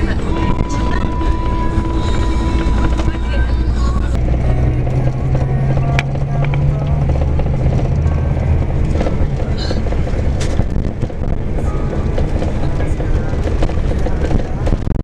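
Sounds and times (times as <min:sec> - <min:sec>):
music playing: 0:00.0 - 0:14.8
coach engine drone: 0:00.0 - 0:15.0
road noise: 0:00.0 - 0:15.0.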